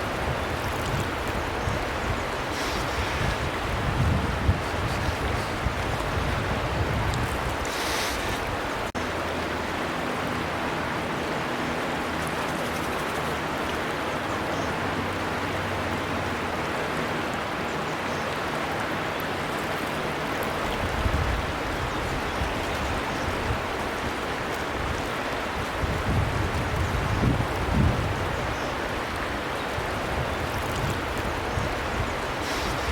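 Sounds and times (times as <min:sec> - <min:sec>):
river flowing: 0:00.0 - 0:32.9.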